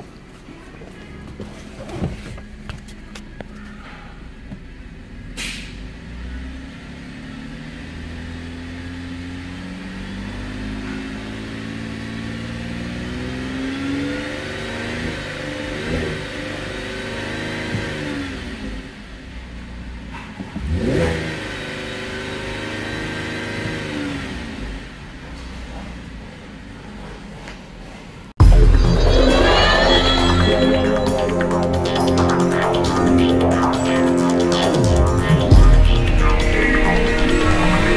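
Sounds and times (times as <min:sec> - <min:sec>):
car engine revving: 0:01.3 - 0:27.3, 0:28.4 - 0:37.9.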